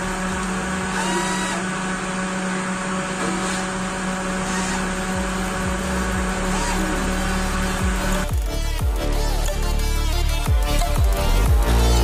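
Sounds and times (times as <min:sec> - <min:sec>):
cordless screwdriver motor hum: 0:00.0 - 0:12.0.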